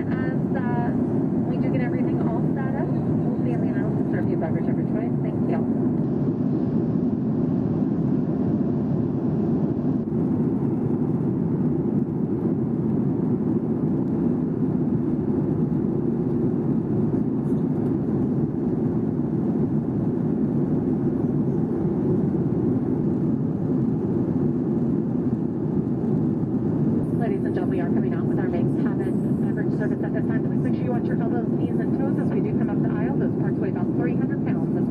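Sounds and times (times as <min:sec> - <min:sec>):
airplane cabin engine and airflow noise: 0:00.0 - 0:34.9.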